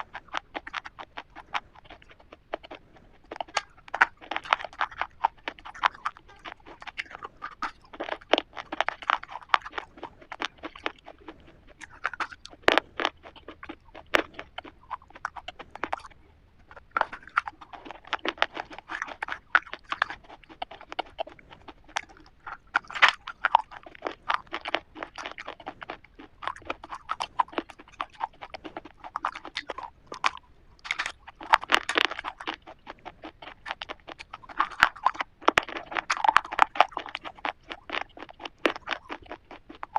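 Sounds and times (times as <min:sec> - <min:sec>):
chewing crunchy wafer bar: 0:00.0 - 0:39.9.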